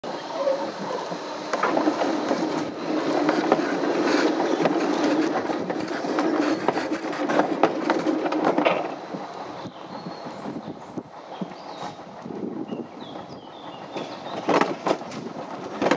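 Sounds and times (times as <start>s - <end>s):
sled rolling rumble: 0.0s - 15.9s
sled clacks and knocks: 0.3s - 15.9s.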